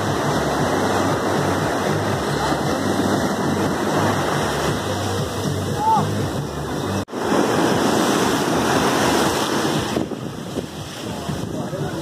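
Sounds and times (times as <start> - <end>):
sea waves breaking on sand: 0.0 - 12.0.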